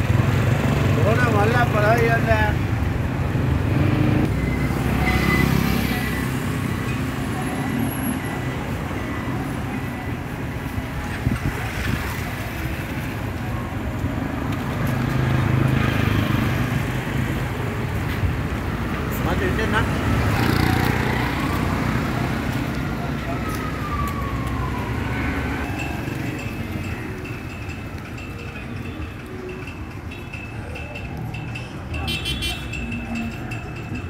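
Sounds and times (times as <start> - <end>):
road traffic hum: 0.0 - 34.0.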